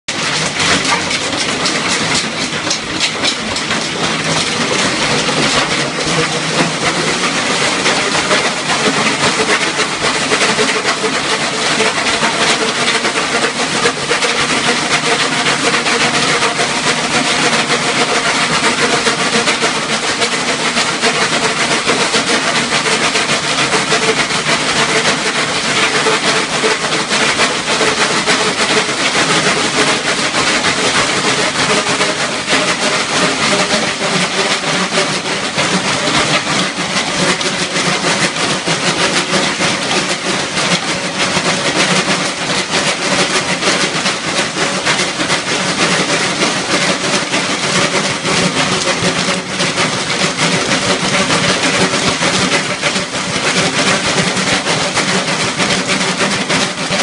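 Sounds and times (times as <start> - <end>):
dog paws striking slats: 0.1 - 57.0
treadmill slats rattling: 0.1 - 57.0.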